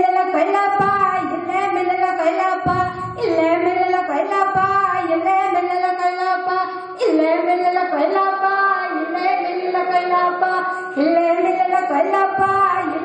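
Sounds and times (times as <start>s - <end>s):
woman singing folk song: 0.0s - 13.0s.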